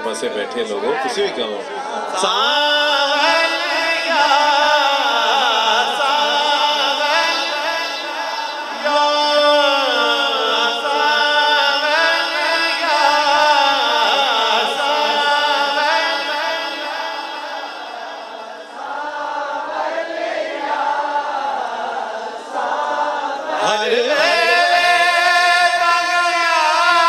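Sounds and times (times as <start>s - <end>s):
man singing unaccompanied: 0.0s - 18.7s, 23.5s - 27.0s.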